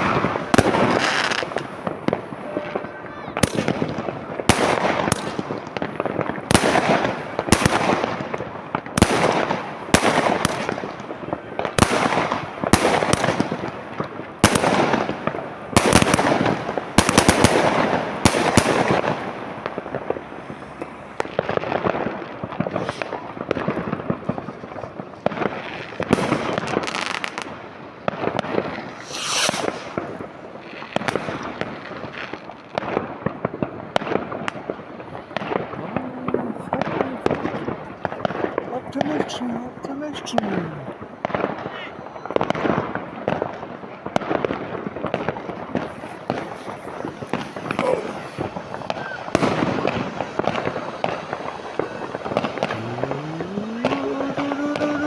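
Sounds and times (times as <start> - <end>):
firecracker crackling: 0.0 - 55.0
fireworks and firecrackers bangs: 0.0 - 55.0.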